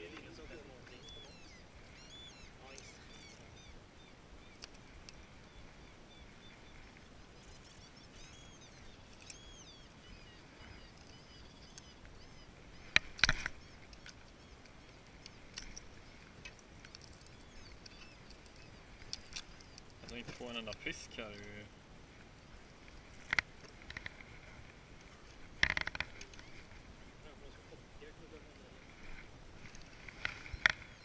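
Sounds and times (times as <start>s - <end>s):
songbird chirping: 0.0s - 21.8s, 23.0s - 31.0s.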